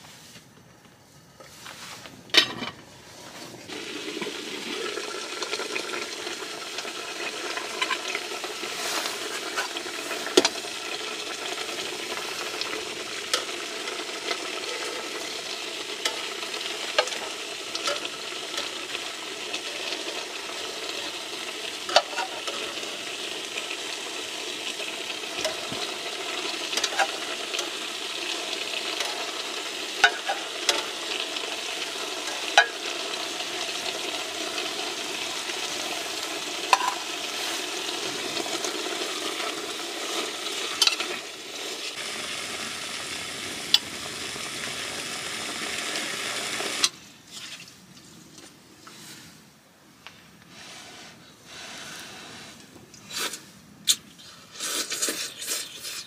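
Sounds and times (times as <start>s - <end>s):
pasta sizzling in a pot: 1.4s - 47.7s, 50.5s - 53.6s, 54.2s - 56.0s.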